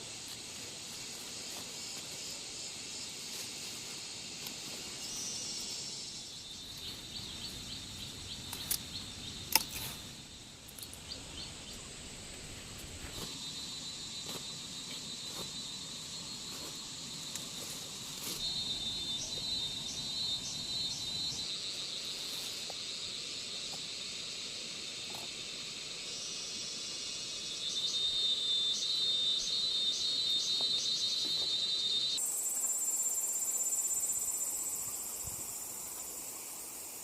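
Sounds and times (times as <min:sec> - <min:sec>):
insects chirping and trilling: 0:00.0 - 0:37.0.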